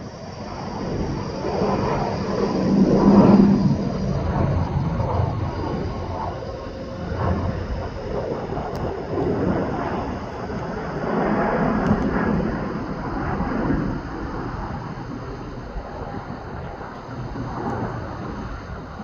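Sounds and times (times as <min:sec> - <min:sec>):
jet airliner rumble: 0:00.0 - 0:19.0.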